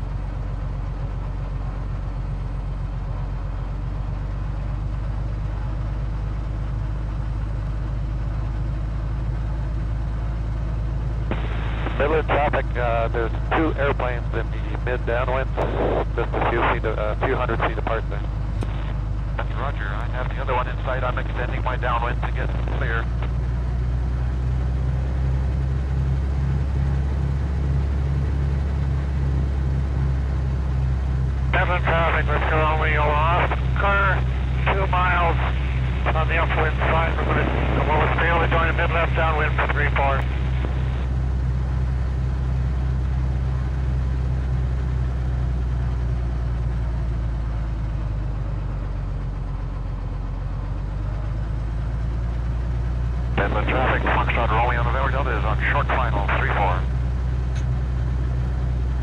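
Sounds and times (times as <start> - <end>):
aircraft engine droning in cabin: 0.0 - 59.0.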